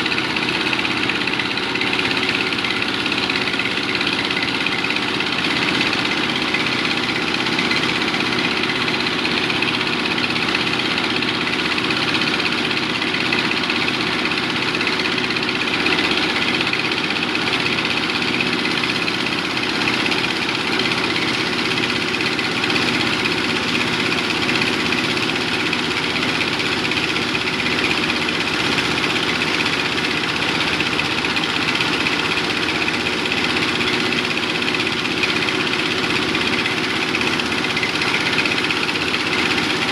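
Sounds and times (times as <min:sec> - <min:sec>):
small machinery engine running: 0:00.0 - 0:39.9.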